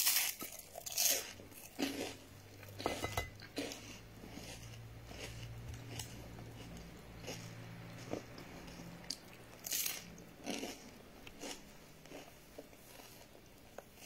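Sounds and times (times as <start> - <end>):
person chewing crunchy food: 0.0 - 14.0
low steady hum: 0.2 - 14.0.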